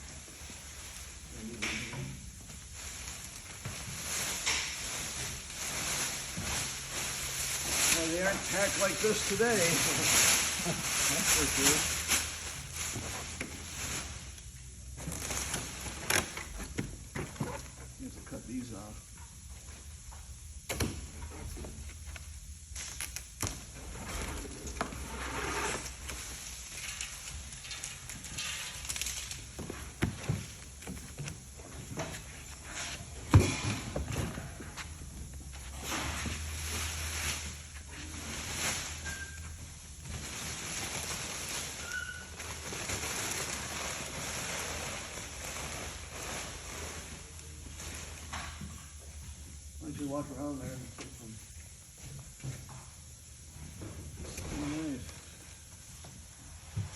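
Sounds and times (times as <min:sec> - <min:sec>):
packing rustling and scraping: 0:00.0 - 0:18.4, 0:21.0 - 0:49.0.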